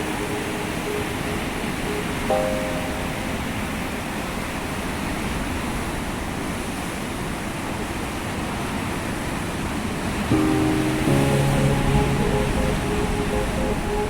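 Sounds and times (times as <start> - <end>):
rough surf breaking waves: 0.0 - 14.0.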